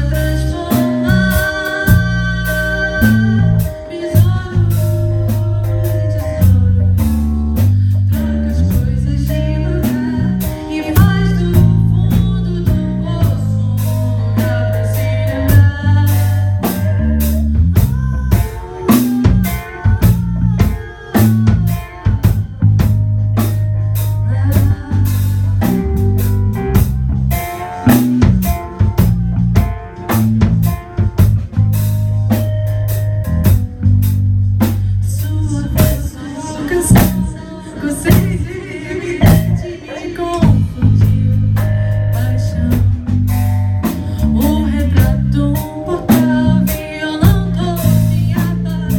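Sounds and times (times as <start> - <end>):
drum kit beat: 0.0 - 48.9
electric bass: 0.0 - 48.9
electric guitars: 0.0 - 48.9.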